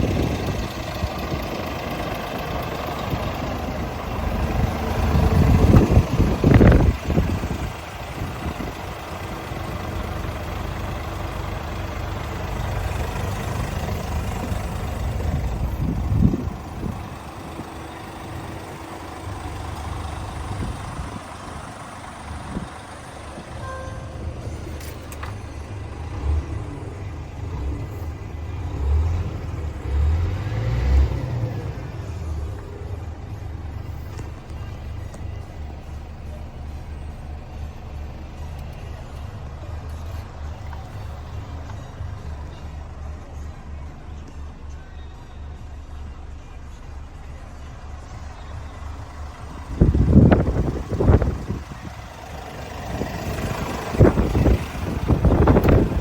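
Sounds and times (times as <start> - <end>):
diesel truck engine rumbling: 0.0 - 56.0.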